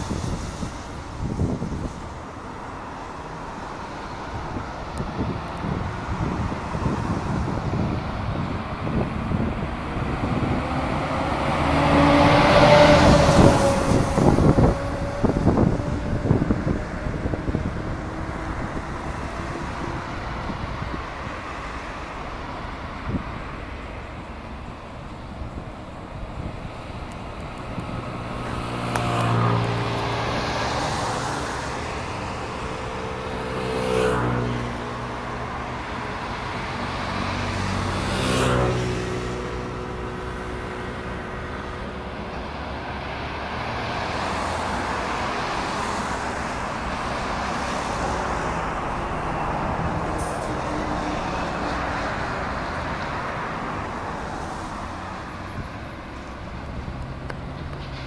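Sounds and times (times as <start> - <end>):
diesel trucks passing: 0.0 - 58.0
tyre and traffic noise: 0.0 - 58.0.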